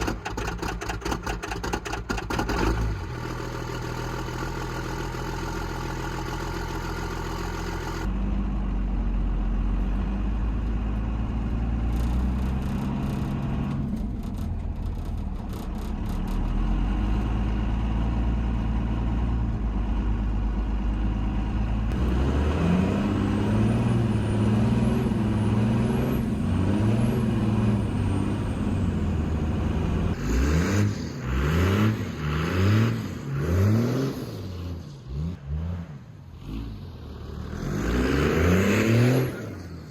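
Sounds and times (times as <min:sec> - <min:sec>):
pickup truck engine idling and revving: 0:00.0 - 0:39.9.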